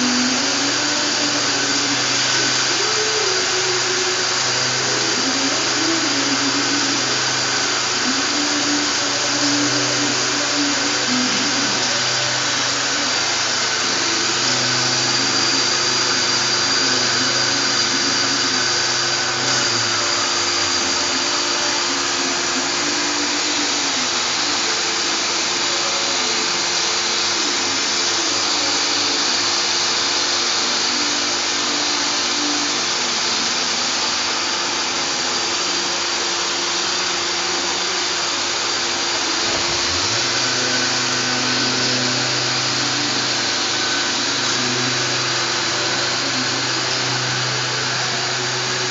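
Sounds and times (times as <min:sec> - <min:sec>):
high whine: 0:00.0 - 0:48.9
sanding machine running: 0:00.0 - 0:48.9.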